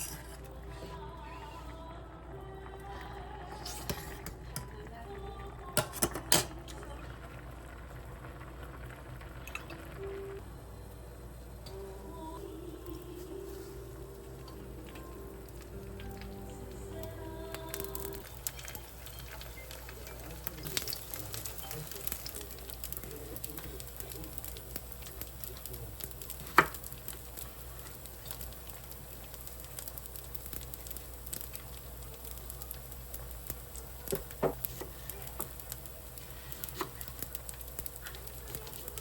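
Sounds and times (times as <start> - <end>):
food sizzling in a frying pan: 5.6 - 39.0.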